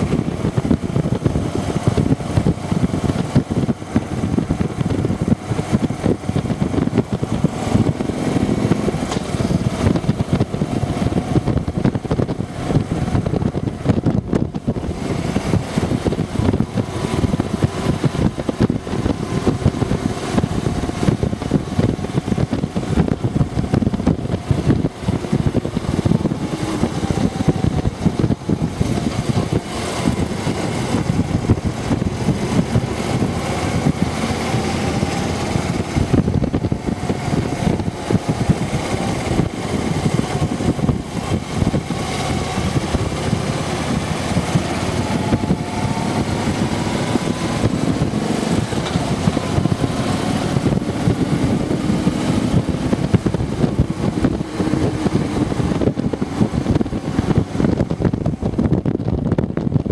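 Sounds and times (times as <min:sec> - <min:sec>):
motorcycle engine running: 0:00.0 - 0:59.9
road noise: 0:00.0 - 0:59.9
rushing wind: 0:00.0 - 0:59.9.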